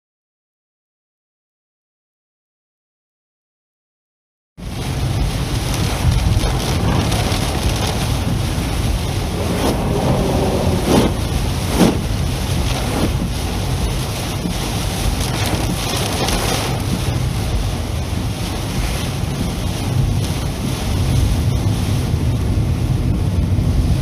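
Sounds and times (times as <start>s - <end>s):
heavy rain and tyre spray: 4.6s - 24.0s.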